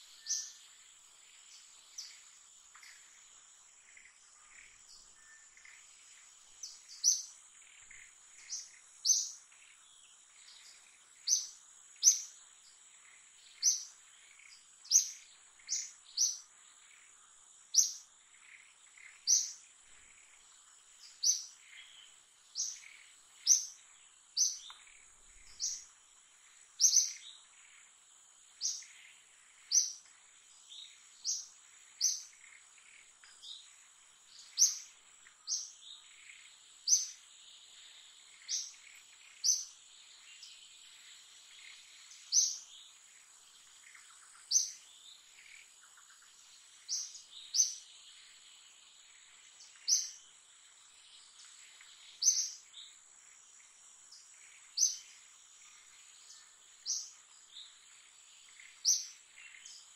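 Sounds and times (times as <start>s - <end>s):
bird chirping: 0.0s - 59.9s
insects droning: 0.0s - 59.9s.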